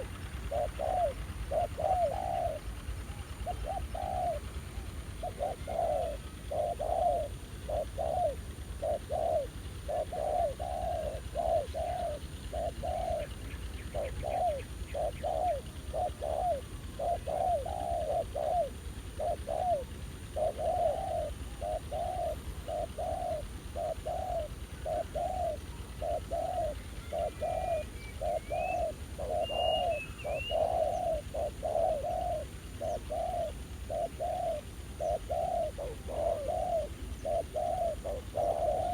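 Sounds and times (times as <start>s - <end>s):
doves cooing: 0.0s - 38.9s
small bird chirping: 0.0s - 38.9s.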